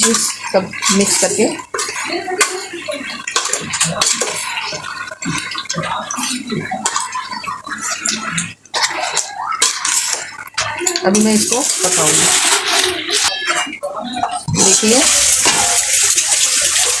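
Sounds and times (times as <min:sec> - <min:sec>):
metal spoon scraping a pan: 0:00.0 - 0:17.0
wet sizzle: 0:00.0 - 0:17.0.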